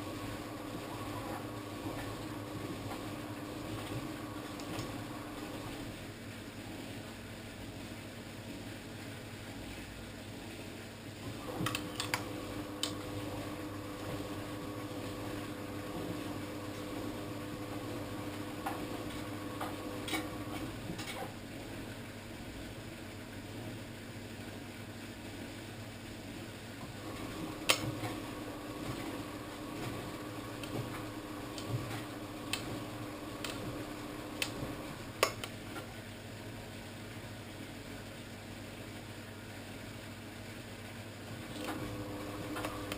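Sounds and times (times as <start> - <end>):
washing machine motor humming: 0.0 - 8.6, 10.2 - 42.9.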